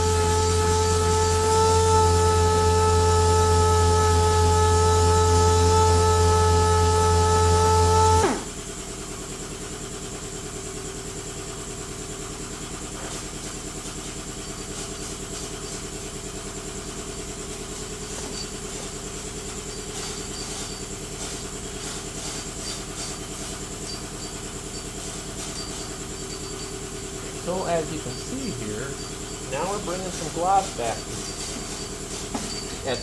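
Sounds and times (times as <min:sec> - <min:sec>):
orbital sander humming: 0:00.0 - 0:08.5, 0:14.3 - 0:33.0.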